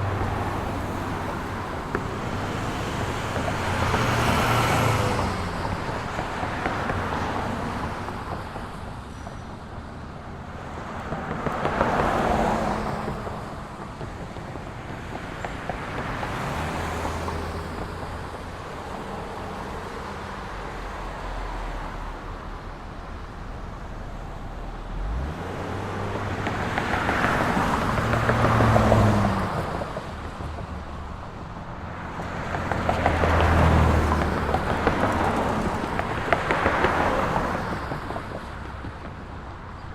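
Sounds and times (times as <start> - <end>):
cars passing: 0.0 - 39.9
low traffic hum: 0.0 - 39.9.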